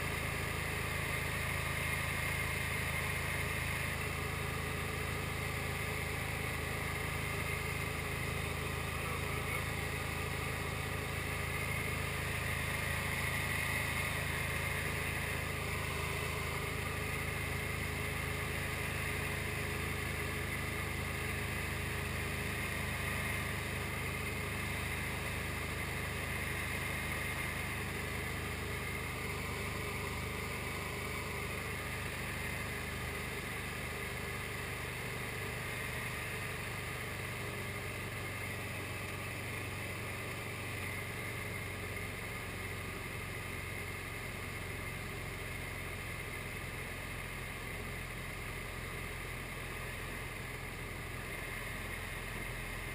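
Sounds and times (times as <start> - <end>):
light aircraft engine drone: 0.0 - 52.9.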